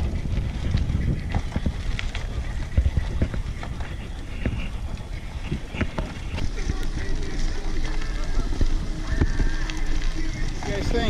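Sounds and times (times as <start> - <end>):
bicycle clicks and rattles: 0.0 - 11.0
bicycle tyres crunching on gravel: 0.0 - 11.0
steady low rumble: 0.0 - 11.0.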